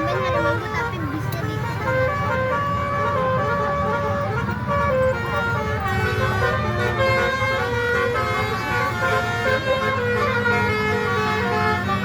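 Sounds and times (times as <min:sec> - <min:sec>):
bus engine rumble: 0:00.0 - 0:12.0
bus horn playing a melody: 0:00.0 - 0:12.0
passing traffic: 0:00.0 - 0:12.0.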